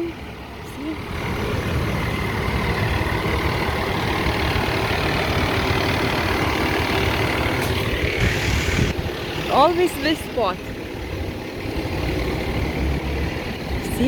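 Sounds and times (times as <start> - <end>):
van engine idling: 0.0 - 14.0.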